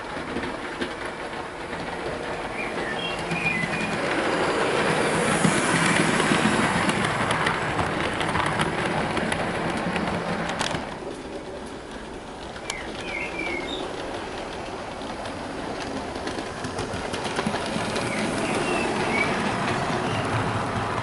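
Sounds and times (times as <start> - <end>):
model train wheels clicking on rails: 0.0 - 21.0.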